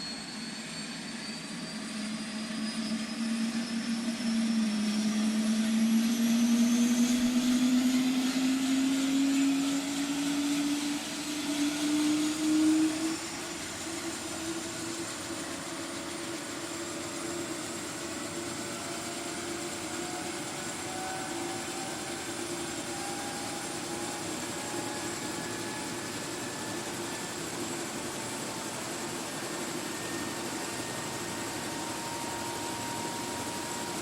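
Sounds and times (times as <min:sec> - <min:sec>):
helicopter turbine whine: 0:00.0 - 0:34.0.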